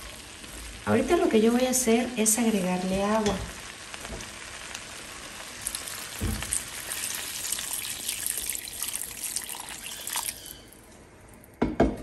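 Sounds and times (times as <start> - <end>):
water hissing in hot pan: 0.0 - 10.9.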